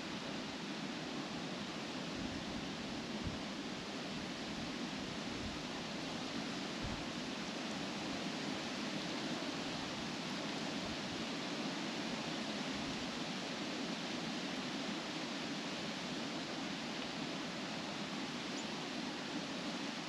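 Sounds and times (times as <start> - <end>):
wind rustling tree leaves: 0.0 - 20.0.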